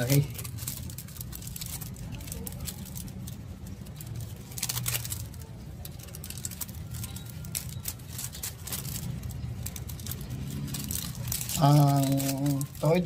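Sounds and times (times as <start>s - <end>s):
wire crinkling and clicking: 0.0s - 13.0s.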